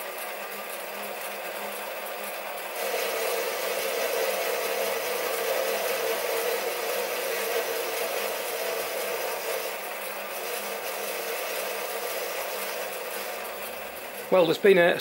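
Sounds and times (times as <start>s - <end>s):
lathe cutting metal: 0.0s - 15.0s.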